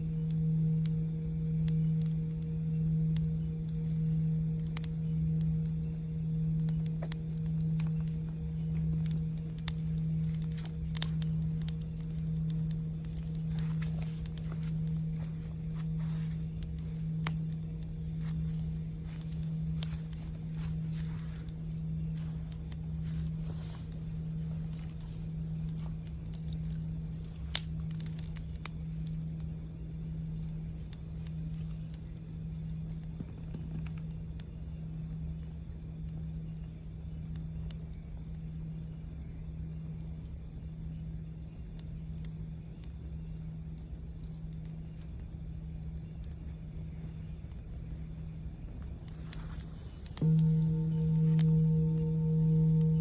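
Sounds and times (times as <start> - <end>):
campfire crackling: 0.0 - 53.0
singing bowl humming: 0.0 - 53.0
steady low drone: 0.0 - 53.0.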